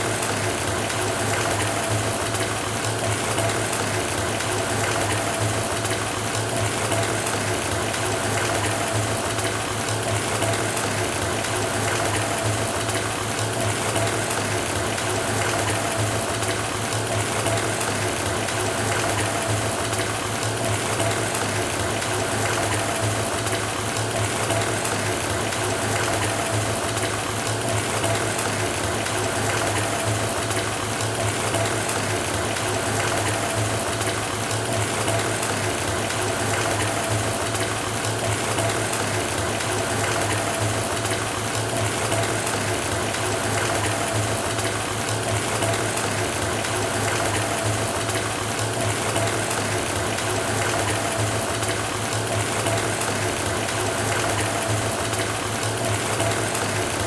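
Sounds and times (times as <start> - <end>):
tap water running into bathtub: 0.0 - 57.0.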